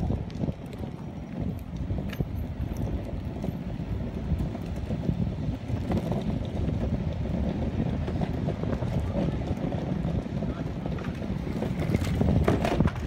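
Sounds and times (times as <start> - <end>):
skateboard wheels rumbling on pavement: 0.0 - 13.0
wind on microphone: 0.0 - 13.0.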